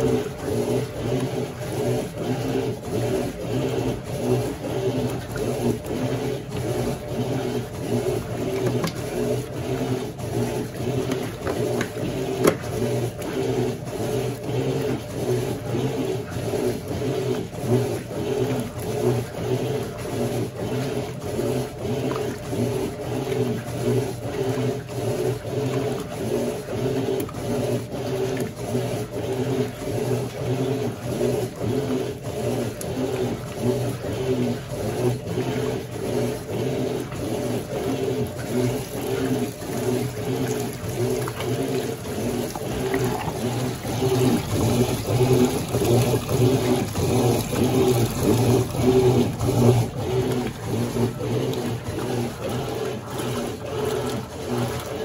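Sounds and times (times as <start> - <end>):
motor hum: 0.0 - 55.0
washing machine agitator churning: 0.0 - 55.0
water splashing: 0.0 - 55.0.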